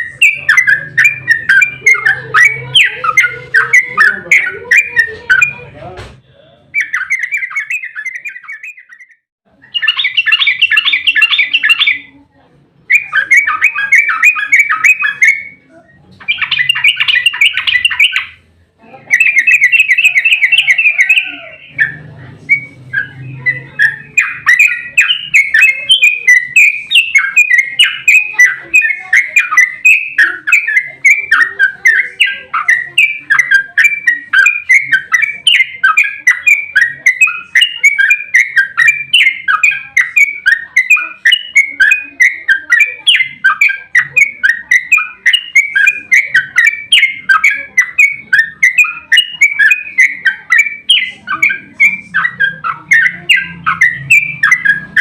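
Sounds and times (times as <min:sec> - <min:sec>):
bird singing chattering phrases: 0:00.0 - 0:55.0.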